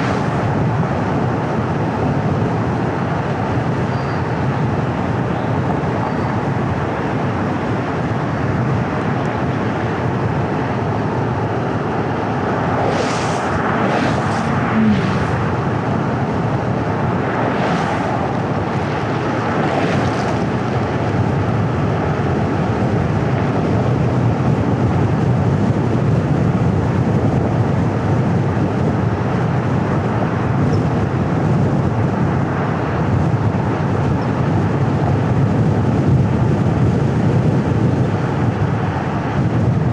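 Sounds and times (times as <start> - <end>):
car road and tyre noise: 0.0 - 39.9
low engine hum: 0.0 - 39.9.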